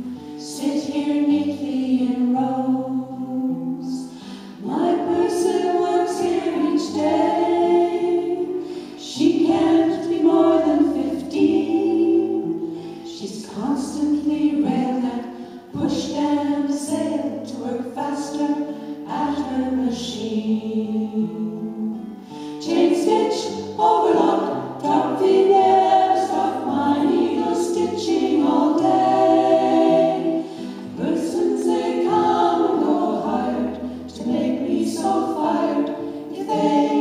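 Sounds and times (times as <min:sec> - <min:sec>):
women singing in harmony: 0:00.0 - 0:37.0.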